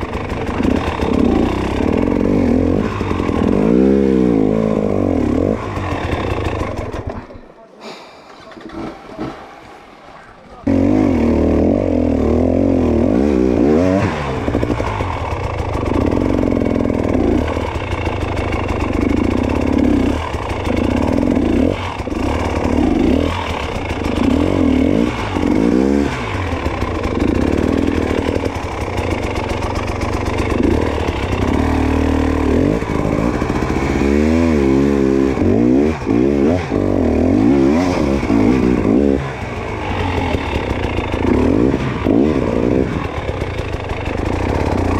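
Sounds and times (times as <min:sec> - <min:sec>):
dirt bike engine revving: 0:00.0 - 0:07.4, 0:10.6 - 0:44.9.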